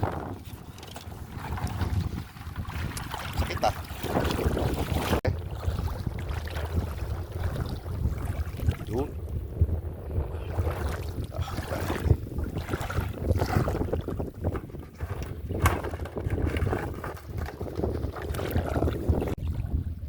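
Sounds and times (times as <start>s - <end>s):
rustling and sloshing: 0.0s - 8.9s, 10.5s - 19.5s
wind buffeting microphone: 0.0s - 20.0s.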